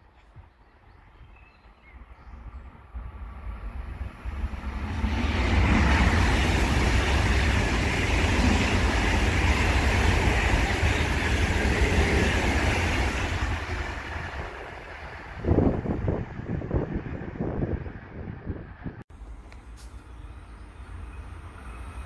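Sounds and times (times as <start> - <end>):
train passing: 1.7 - 22.0.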